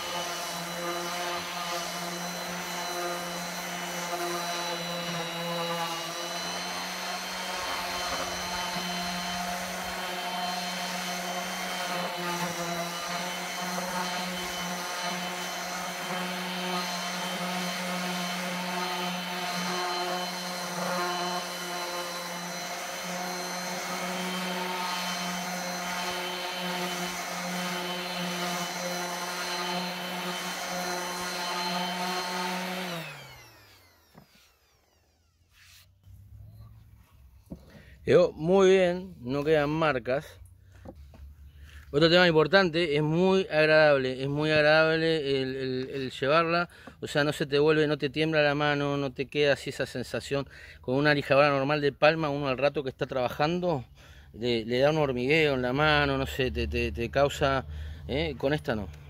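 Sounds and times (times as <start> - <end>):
orbital sander on wood: 0.0 - 49.1, 50.8 - 59.0.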